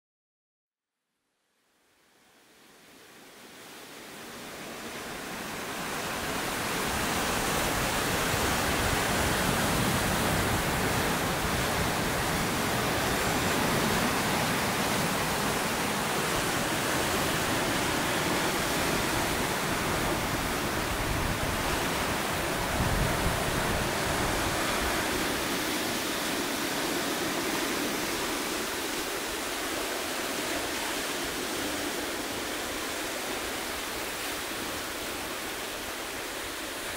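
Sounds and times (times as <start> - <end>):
ocean surf breaking on rocks: 3.6 - 36.9.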